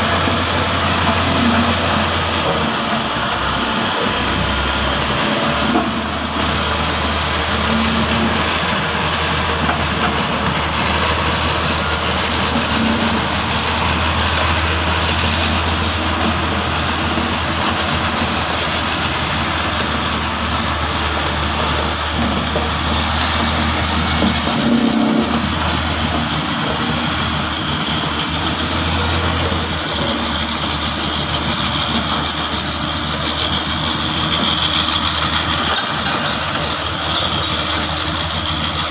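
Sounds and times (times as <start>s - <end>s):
diesel engines droning: 0.0s - 38.9s
rough mechanical rattle: 0.0s - 38.9s.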